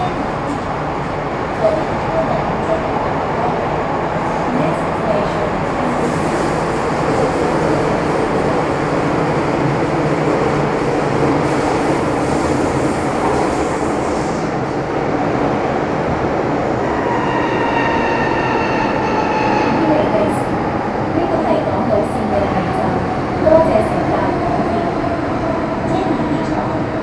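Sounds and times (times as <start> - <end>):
train wheels on rail: 0.0 - 27.0.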